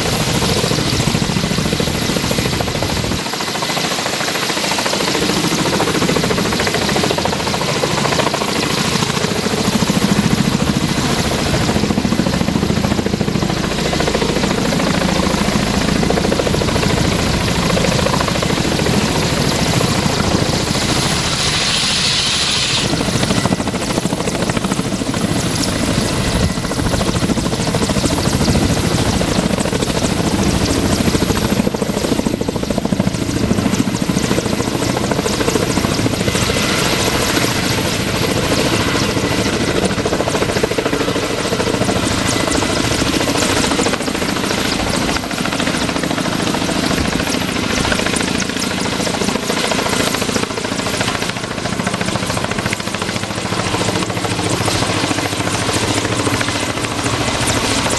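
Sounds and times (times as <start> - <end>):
helicopter rotor and engine whine: 0.0 - 57.9.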